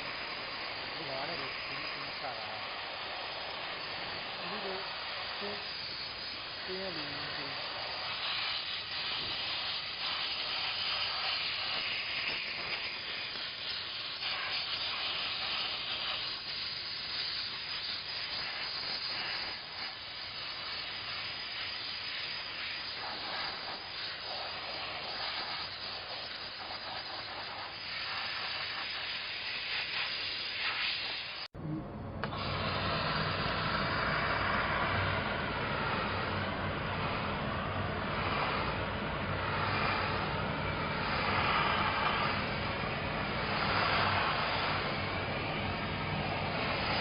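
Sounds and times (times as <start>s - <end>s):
steam mop hissing: 0.0s - 31.6s, 32.2s - 47.0s.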